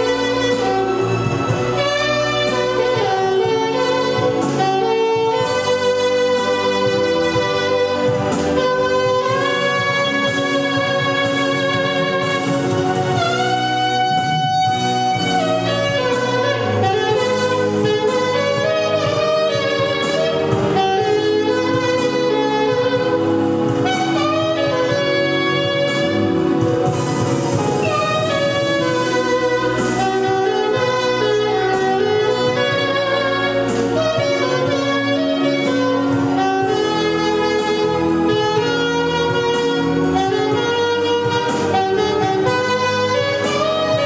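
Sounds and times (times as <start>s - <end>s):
backing accompaniment: 0.0s - 44.0s
jazz saxophone melody: 0.0s - 44.0s.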